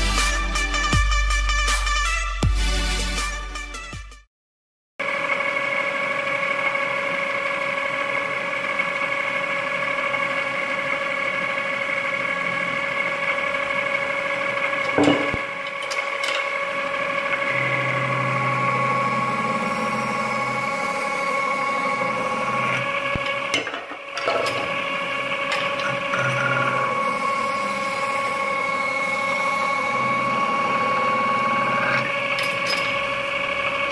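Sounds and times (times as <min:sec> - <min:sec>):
low hum of spinning tool: 0:05.0 - 0:33.9
metal lathe whining: 0:05.1 - 0:33.9.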